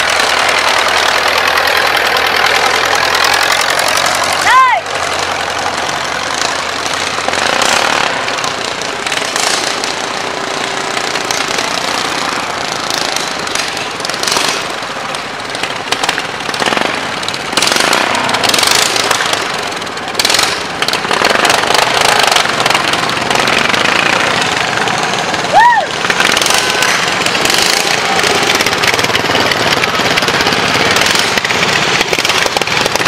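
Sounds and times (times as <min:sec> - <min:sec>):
rattling engines approaching: 0:00.0 - 0:33.0.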